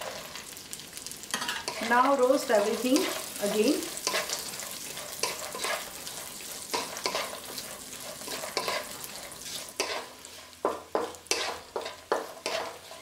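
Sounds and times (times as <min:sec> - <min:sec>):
nuts sizzling in oil: 0:00.0 - 0:13.0
wooden spatula scraping a wok: 0:01.4 - 0:13.0.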